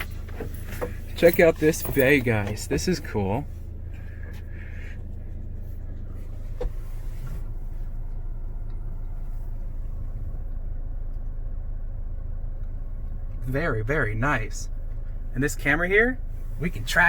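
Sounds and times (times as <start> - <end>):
car idling: 0.0 - 17.0.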